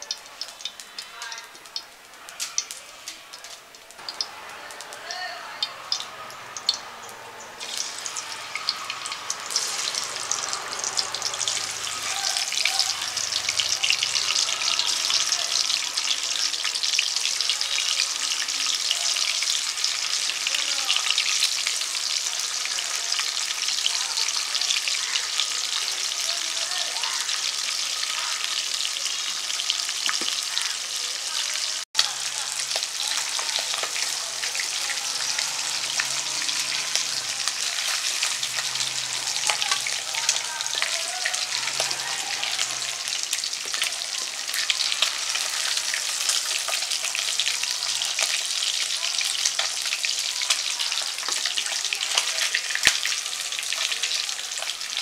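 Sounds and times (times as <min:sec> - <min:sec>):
fish sizzling in deep oil: 0:00.0 - 0:55.0.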